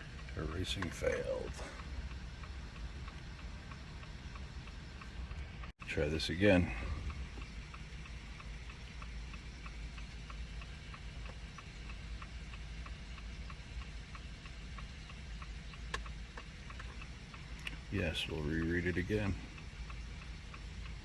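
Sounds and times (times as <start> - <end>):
hazard flashers ticking: 0.0 - 21.0
low cabin hum: 0.0 - 21.0.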